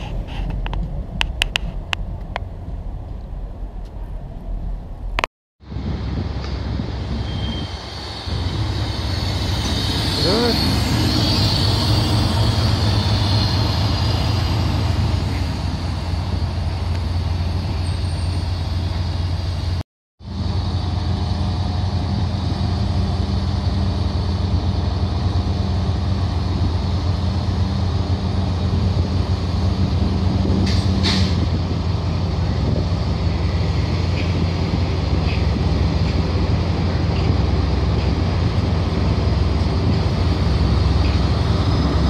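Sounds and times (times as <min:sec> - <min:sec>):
diesel locomotive engine throbbing: 0:00.0 - 0:42.0.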